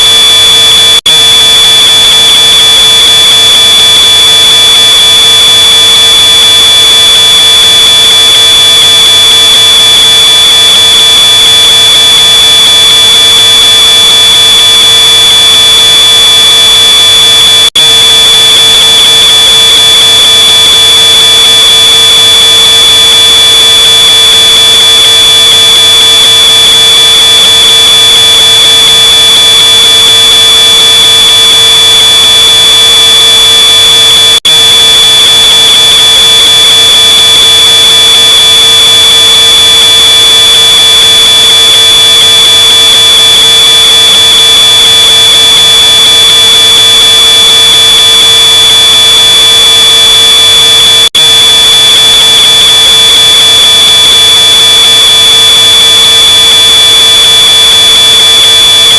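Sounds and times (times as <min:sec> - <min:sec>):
distorted smoke alarm tone: 0:00.0 - 0:58.9.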